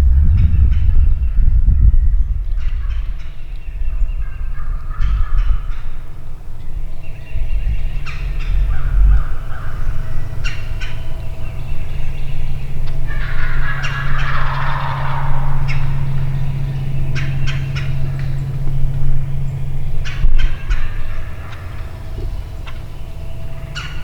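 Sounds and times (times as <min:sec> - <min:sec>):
low rumble: 0:00.0 - 0:24.0
turkeys gobbling: 0:02.4 - 0:24.0.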